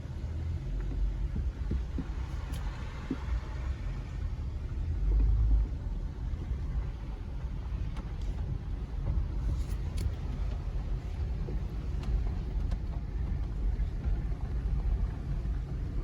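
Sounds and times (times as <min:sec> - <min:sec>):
vehicle engine rumble inside cab: 0:00.0 - 0:16.0.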